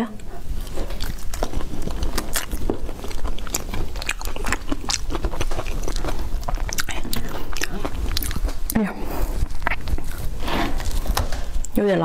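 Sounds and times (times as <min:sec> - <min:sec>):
spiny shell scraping: 0:00.3 - 0:11.7
fruit husk cracking and creaking: 0:00.3 - 0:11.8.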